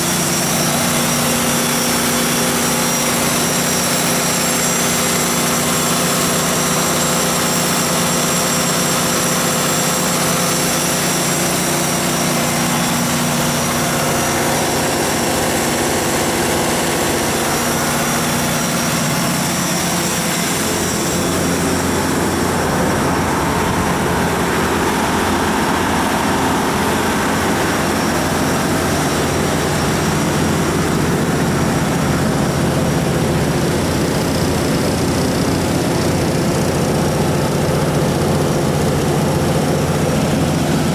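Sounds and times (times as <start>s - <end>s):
diesel generator engine running: 0.0s - 40.9s.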